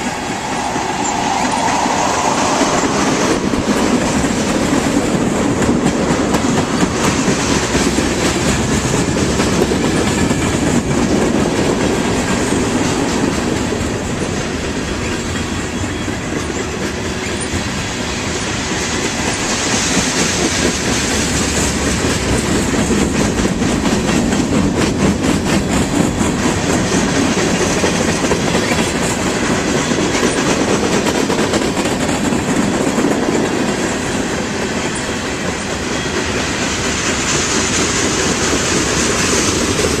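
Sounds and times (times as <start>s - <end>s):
train rumbling: 0.0s - 40.0s
train wheel clicks: 0.0s - 40.0s.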